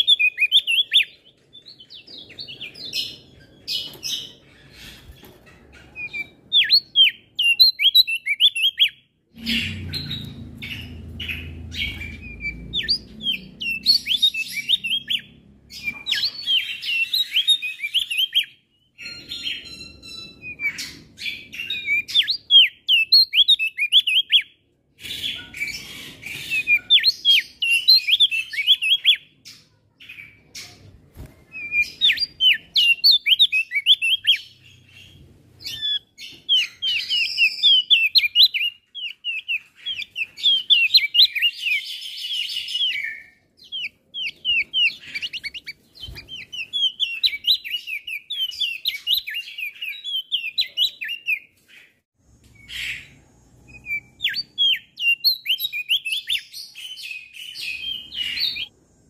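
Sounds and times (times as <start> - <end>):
bird singing high chirps: 0.0 - 58.8.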